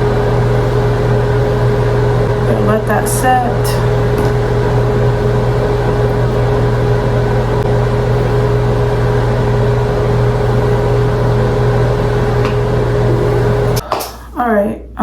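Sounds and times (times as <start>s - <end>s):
hair dryer brush whirring: 0.0s - 13.9s.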